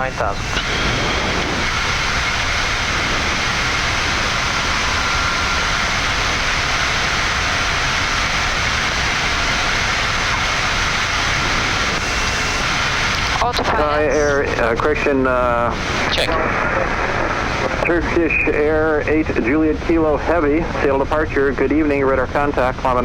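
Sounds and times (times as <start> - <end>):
airflow and engine noise: 0.0 - 23.0
faint high whine: 0.0 - 23.0.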